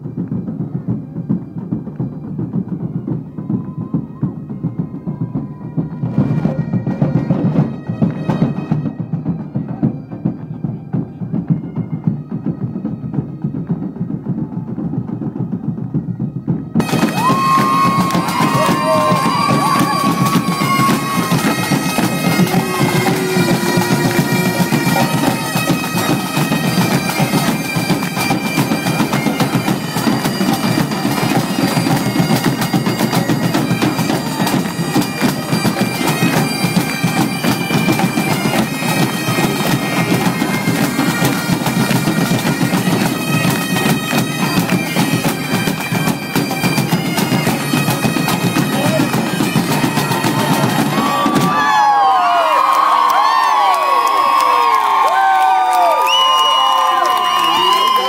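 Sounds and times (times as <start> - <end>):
drums beating: 0.0 - 58.0
bagpipes playing melody: 0.6 - 14.0, 16.2 - 51.7.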